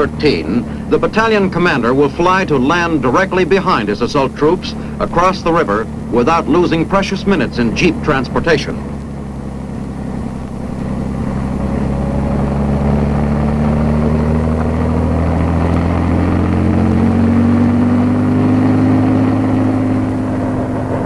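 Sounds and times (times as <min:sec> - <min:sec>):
helicopter engine drone: 0:00.0 - 0:21.0.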